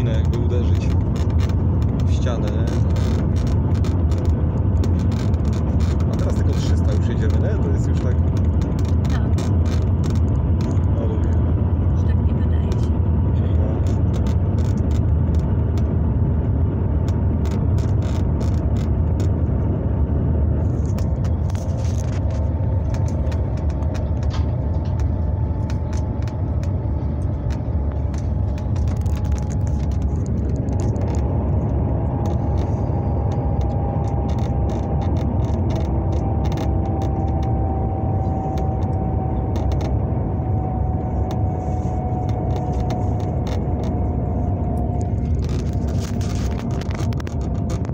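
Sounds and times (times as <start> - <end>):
light clicks and rattles: 0.0 - 16.4, 17.0 - 20.0, 20.6 - 47.9
faint whine: 0.0 - 47.9
train cabin rumble and rushing: 0.0 - 47.9.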